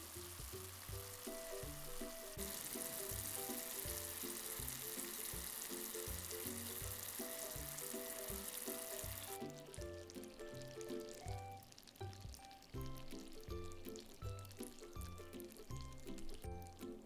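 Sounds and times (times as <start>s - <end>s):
background music: 0.0s - 17.0s
syrup boiling with crackling sizzle: 0.0s - 17.0s.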